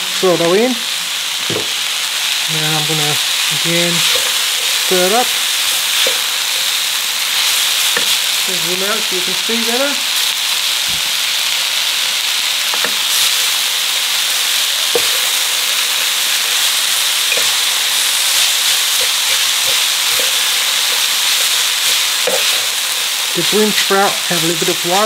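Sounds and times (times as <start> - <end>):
stir-fry sizzling in a pan: 0.0 - 25.0.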